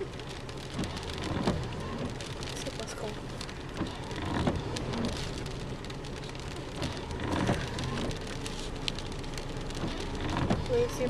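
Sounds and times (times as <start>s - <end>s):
heavy rain on truck: 0.0s - 11.0s.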